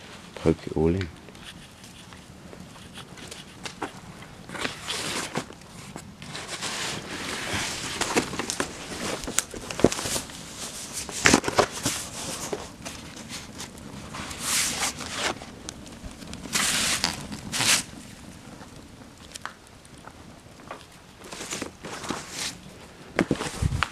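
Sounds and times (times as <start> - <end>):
fire crackling and popping: 0.0 - 23.9
hiss of flame: 0.0 - 23.9.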